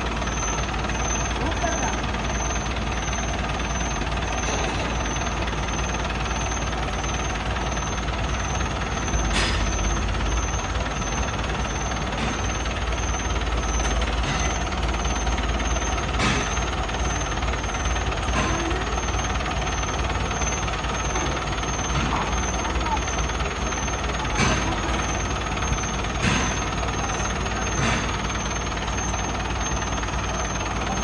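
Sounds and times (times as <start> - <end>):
diesel engine rumbling: 0.0 - 31.0.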